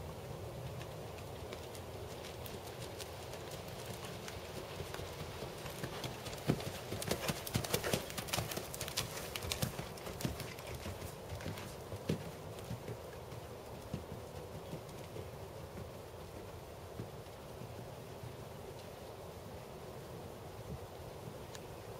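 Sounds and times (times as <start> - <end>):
hoofbeats on sand: 0.6 - 18.3.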